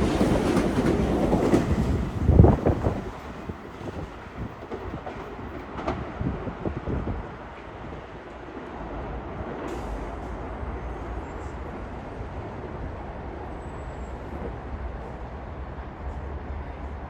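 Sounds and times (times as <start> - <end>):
rail and wheel noise: 0.0 - 17.0
train rumbling past: 0.0 - 17.0.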